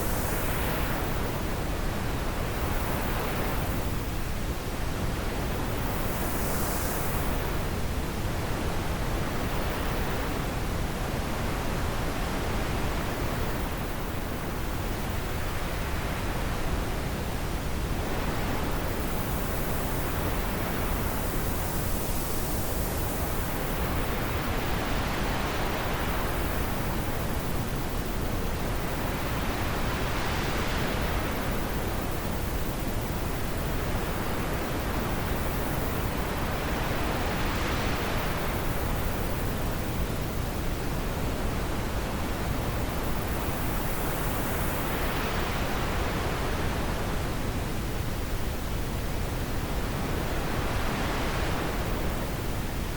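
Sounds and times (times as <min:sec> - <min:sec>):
wind blowing in gusts: 0:00.0 - 0:52.9.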